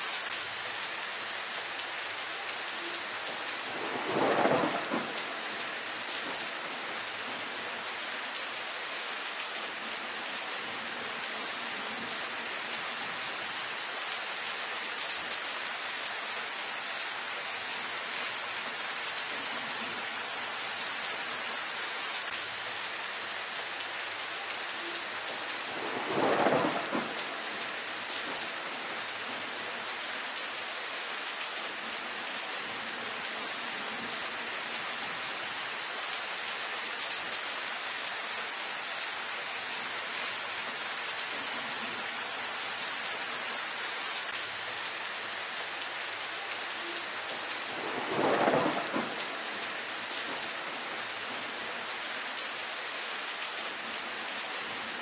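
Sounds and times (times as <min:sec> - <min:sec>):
rain falling on foliage: 0:00.0 - 0:55.0.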